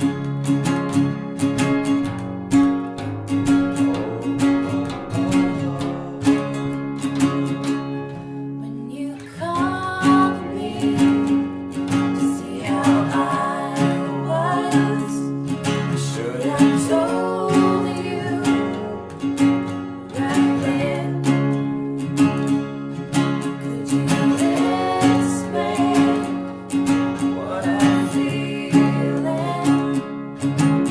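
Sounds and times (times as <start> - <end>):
acoustic bass guitar: 0.0 - 30.9
acoustic guitars strummed: 0.0 - 30.9
person singing: 3.5 - 30.8.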